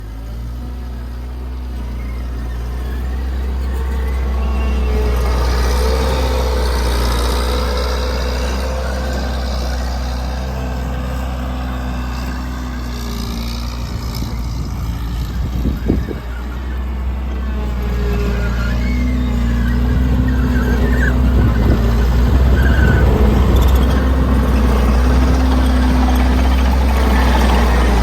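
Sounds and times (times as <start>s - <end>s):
diesel engine drone: 0.0s - 28.0s.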